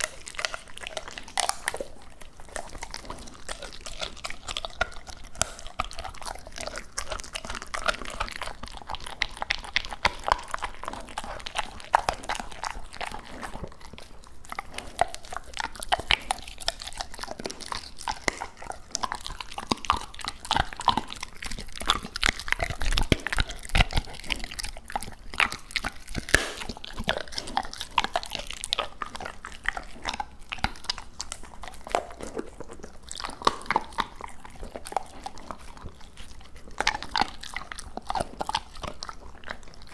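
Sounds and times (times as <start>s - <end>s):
dog chewing meat: 0.0s - 39.9s.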